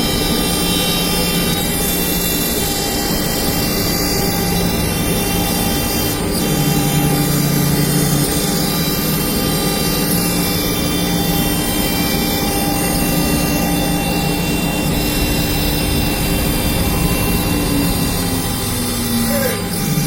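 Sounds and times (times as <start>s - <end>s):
cnc router spindle whine: 0.0s - 20.0s
rushing cutting noise: 0.0s - 20.0s.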